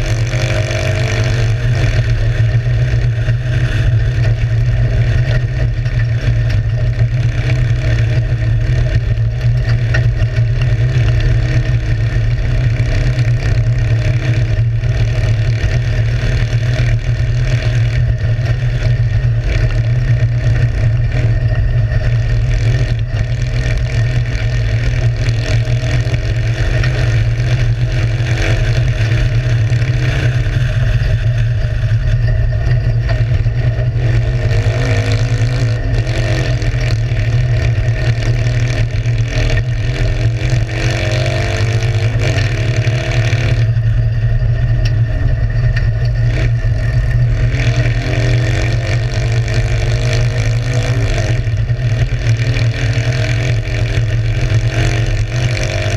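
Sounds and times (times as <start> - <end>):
car engine revving: 0.0 - 55.9
heavy low rumble: 0.0 - 55.9.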